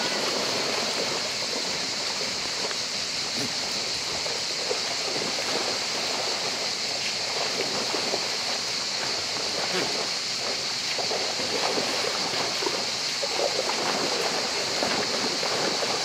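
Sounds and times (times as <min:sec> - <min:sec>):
goats splashing through water: 0:00.0 - 0:16.0
river rushing: 0:00.0 - 0:16.0.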